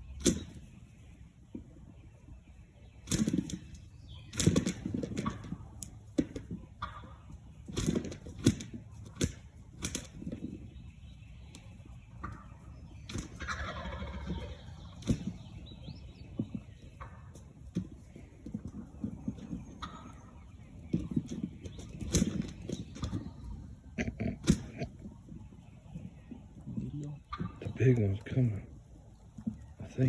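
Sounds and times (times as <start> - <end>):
turkeys gobbling: 0.0 - 30.0.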